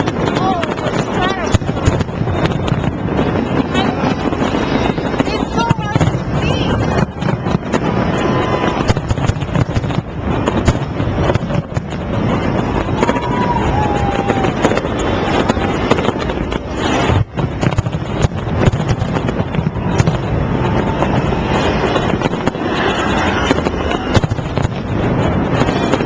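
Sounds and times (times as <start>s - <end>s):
firework whistle: 0.0s - 26.0s
fireworks cracks and bangs: 0.0s - 26.0s.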